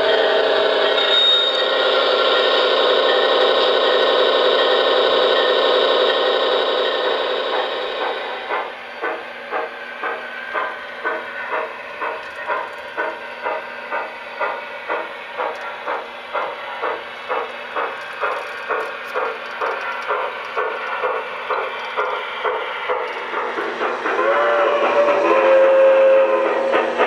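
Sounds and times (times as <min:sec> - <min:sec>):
model steam locomotive chuffing: 0:00.0 - 0:27.0
steam hiss: 0:00.0 - 0:27.0.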